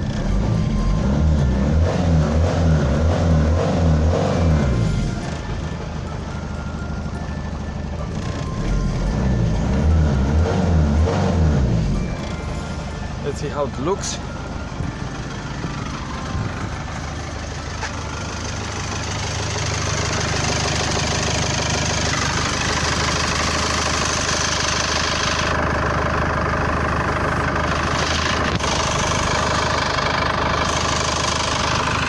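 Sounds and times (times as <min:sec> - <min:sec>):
diesel engine idling with clatter: 0:00.0 - 0:32.0.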